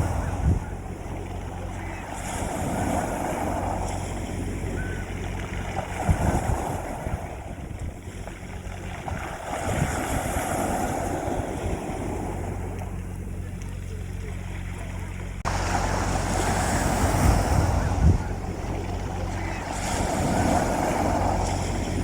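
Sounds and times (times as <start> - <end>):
sea waves washing onto beach: 0.0 - 22.0
steady low hum: 0.0 - 22.0.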